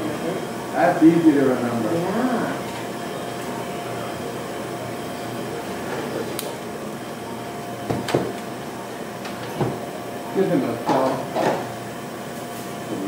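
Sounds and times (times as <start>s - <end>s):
air handling hum: 0.0s - 13.0s.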